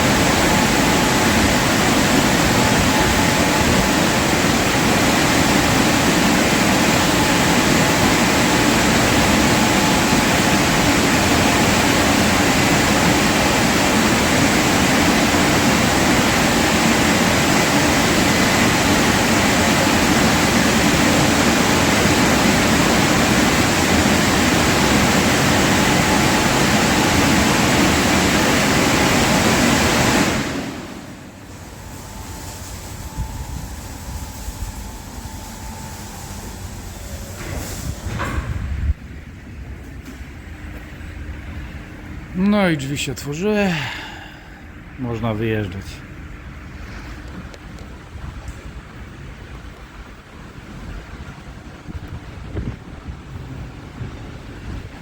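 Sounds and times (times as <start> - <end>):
car wash rushing noise: 0.0 - 55.0.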